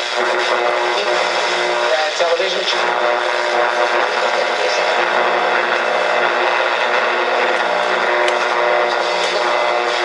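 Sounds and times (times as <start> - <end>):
radio static hiss: 0.0 - 10.0
radio station through small speaker: 0.0 - 10.0.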